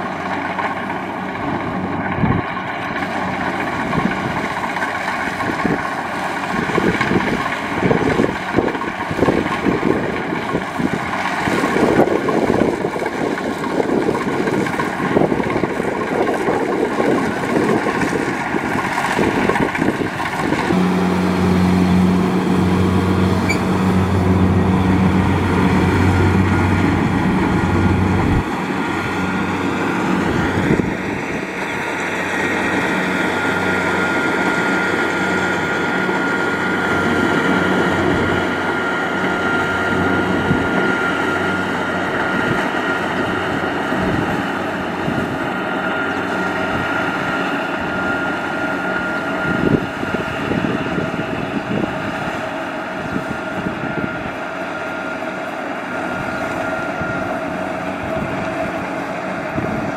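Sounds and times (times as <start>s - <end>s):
combine harvester drone: 0.0s - 59.9s
low engine hum: 0.0s - 59.9s.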